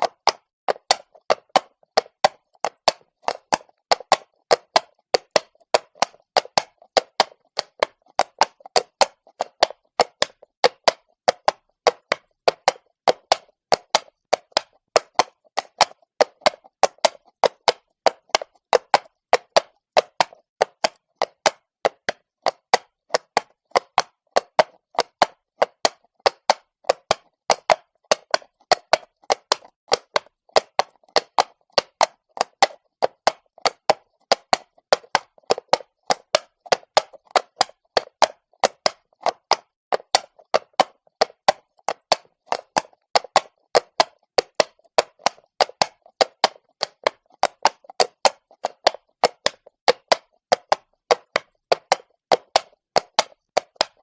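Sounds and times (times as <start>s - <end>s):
horse hooves on cobblestones: 0.0s - 54.0s.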